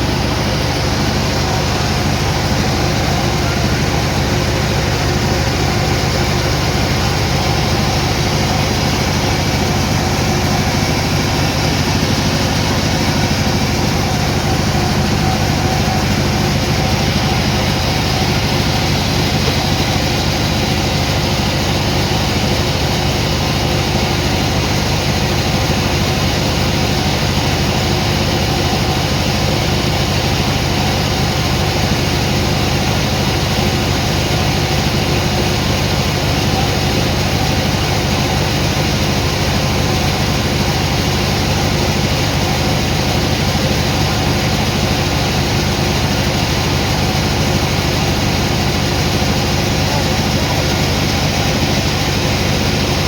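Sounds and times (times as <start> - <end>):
sawmill machinery engine drone: 0.0 - 53.0.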